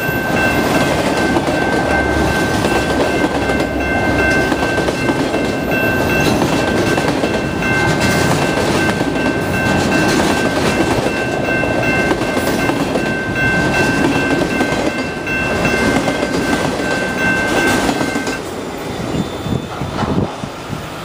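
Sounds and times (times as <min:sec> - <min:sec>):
high ringing tone: 0:00.0 - 0:19.8
train wheels rumbling on rails: 0:00.0 - 0:21.0.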